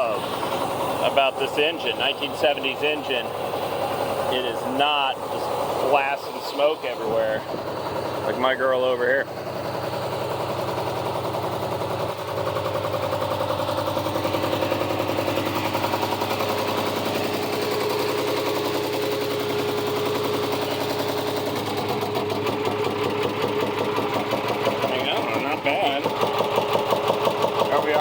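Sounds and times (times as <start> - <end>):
marine diesel engine idling: 0.0 - 28.0.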